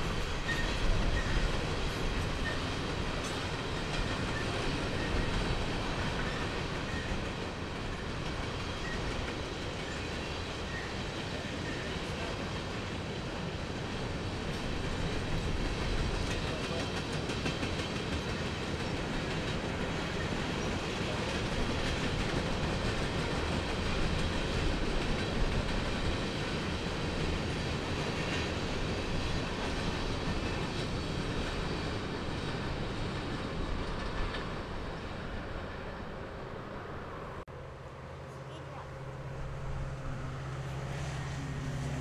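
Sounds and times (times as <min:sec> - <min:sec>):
train cars rumbling on rails: 0:00.0 - 0:42.0.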